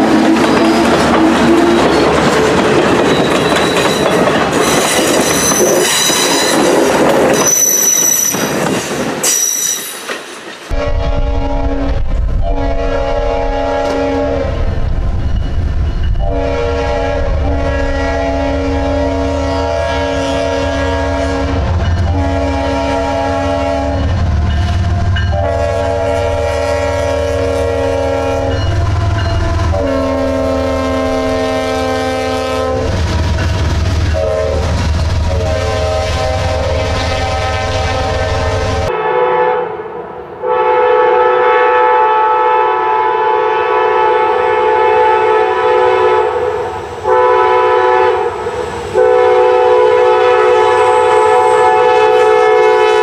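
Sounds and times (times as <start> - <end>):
passenger locomotive horn blasts: 0.0 - 2.8, 10.7 - 14.8, 16.2 - 33.0, 34.1 - 53.0
freight locomotive horn: 0.0 - 8.4, 10.7 - 14.8, 16.1 - 33.0, 34.1 - 53.0.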